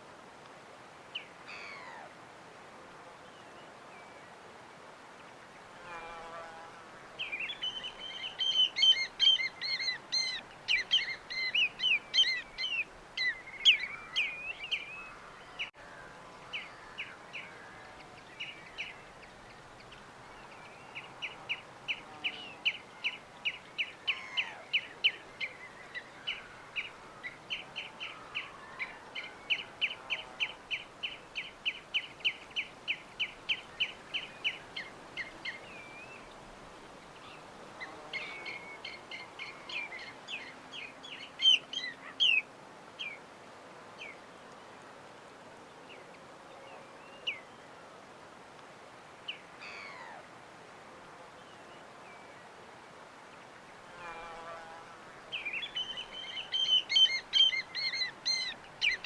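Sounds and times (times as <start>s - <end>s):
faint steady hiss: 0.0s - 59.0s
songbirds chirping: 0.1s - 59.0s.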